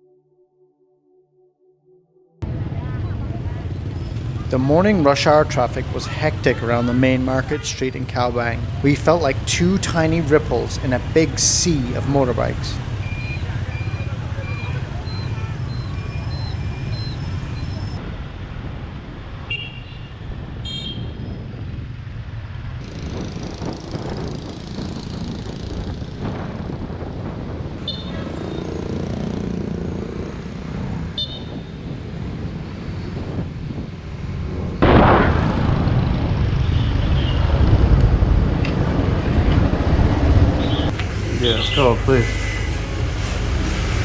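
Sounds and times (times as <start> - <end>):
motorbike engines running: 2.4 - 34.8, 35.4 - 44.0.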